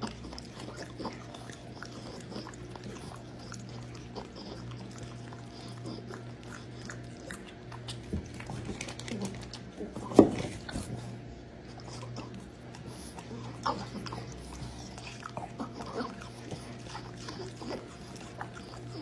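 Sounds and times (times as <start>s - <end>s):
dog chewing and smacking: 0.0s - 19.0s.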